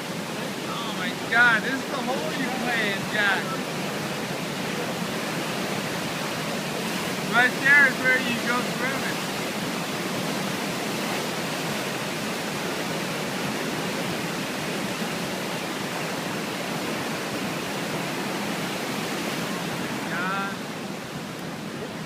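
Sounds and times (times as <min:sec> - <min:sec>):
rushing flood water: 0:00.0 - 0:22.0.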